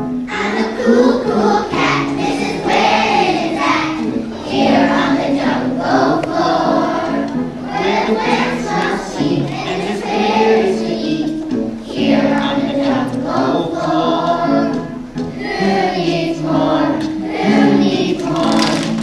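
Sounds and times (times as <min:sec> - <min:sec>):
children's choir singing: 0:00.0 - 0:19.0
musical accompaniment: 0:00.0 - 0:19.0.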